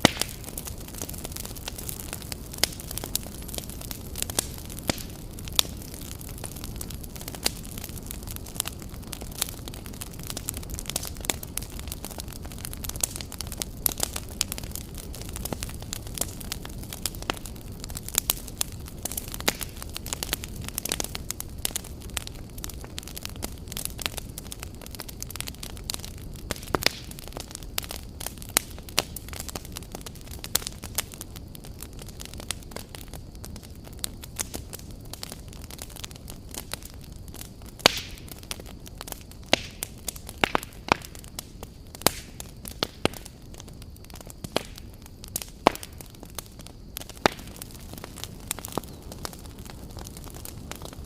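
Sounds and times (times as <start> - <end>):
low rumble of burning logs: 0.0 - 51.0
wood fire crackling and popping: 0.0 - 51.0.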